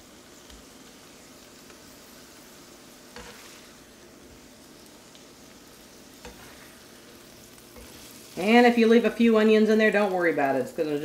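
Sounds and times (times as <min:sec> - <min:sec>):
sausage and onions sizzling: 0:00.0 - 0:11.0
spatula scraping skillet: 0:00.3 - 0:09.2.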